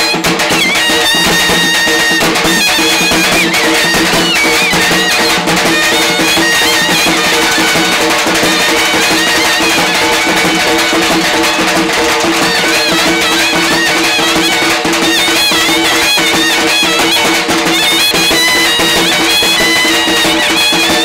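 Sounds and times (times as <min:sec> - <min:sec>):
drums: 0:00.0 - 0:21.0
wavering high melody: 0:00.0 - 0:21.0.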